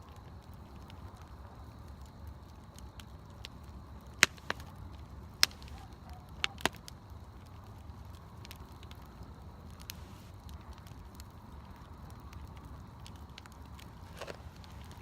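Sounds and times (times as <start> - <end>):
campfire wood crackling: 0.0 - 15.0
sharp fire pops: 0.0 - 15.0.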